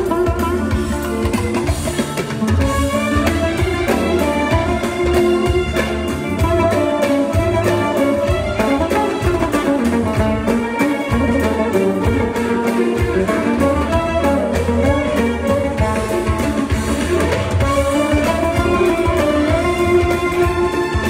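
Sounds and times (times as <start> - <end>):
bass: 0.0 - 21.0
oud plucked: 0.0 - 21.0
steady drum beat: 0.0 - 21.0.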